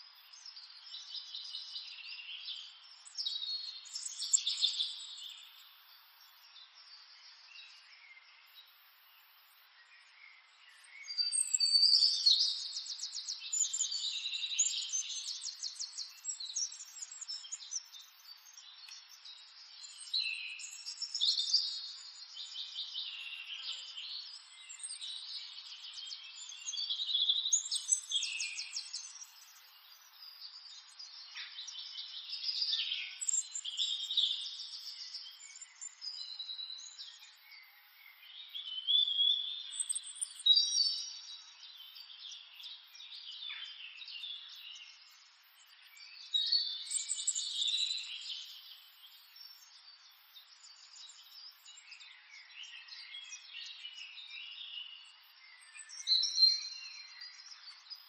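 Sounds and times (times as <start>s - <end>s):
birds chirping and singing: 0.2s - 6.5s, 10.1s - 58.0s.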